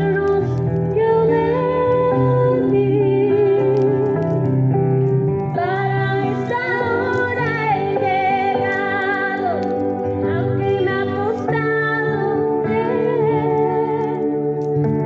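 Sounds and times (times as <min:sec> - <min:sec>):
instrumental backing: 0:00.0 - 0:15.0.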